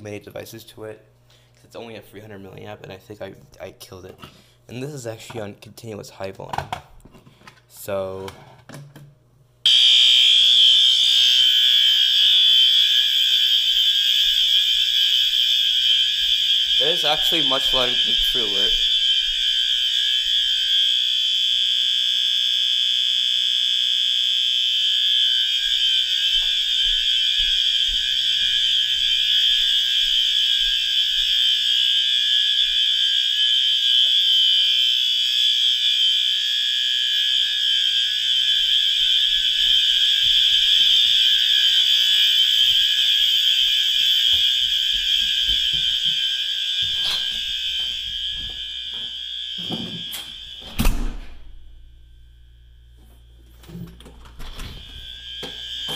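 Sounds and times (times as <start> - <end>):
fire alarm horn tone: 9.6 - 55.9.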